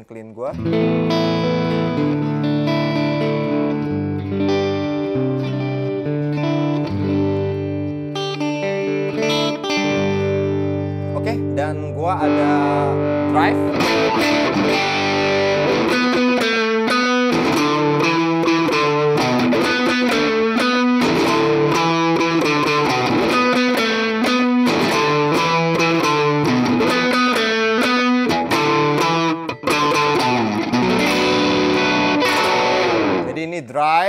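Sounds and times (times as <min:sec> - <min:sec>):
overdriven electric guitar: 0:00.5 - 0:34.0.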